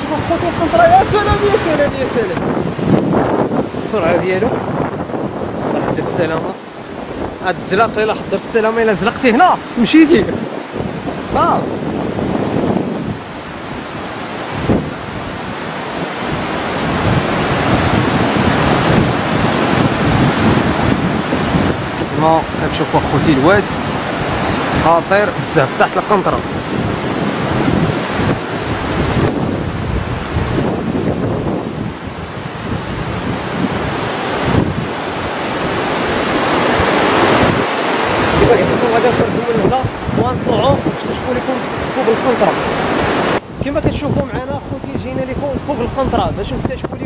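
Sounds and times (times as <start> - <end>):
river floodwater rushing: 0.0 - 47.0
wind noise on microphone: 0.0 - 47.0.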